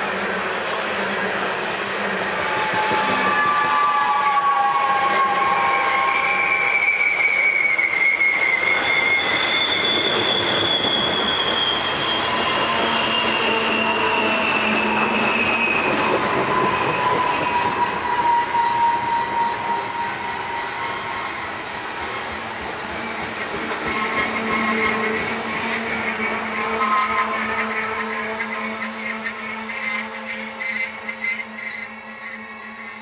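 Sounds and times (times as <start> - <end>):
rumble of rolling train cars: 0.0 - 33.0
train wheels and brakes squealing: 0.0 - 33.0.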